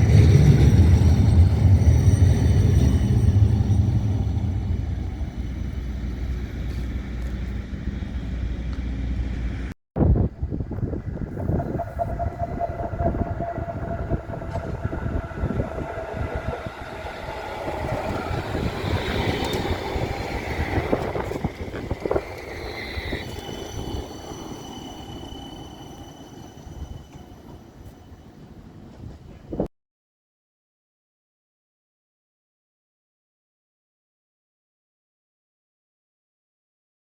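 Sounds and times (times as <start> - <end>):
tram rumbling on track: 0.0 - 29.7.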